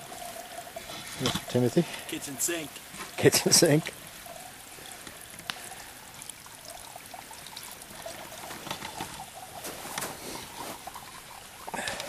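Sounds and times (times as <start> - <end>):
running water trickling: 0.0 - 12.0.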